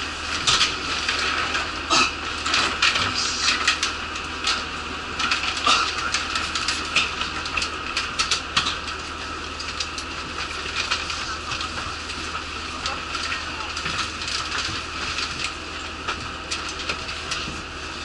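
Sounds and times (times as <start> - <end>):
bus engine and blower hum: 0.0 - 18.0.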